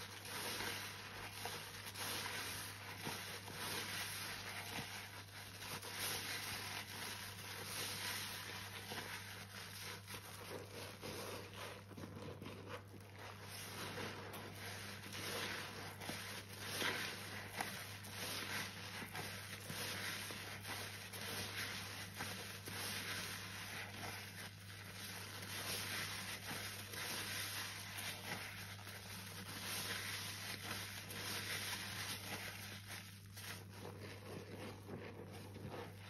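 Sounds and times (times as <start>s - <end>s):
sponge squelching in soapy water: 0.0s - 36.0s.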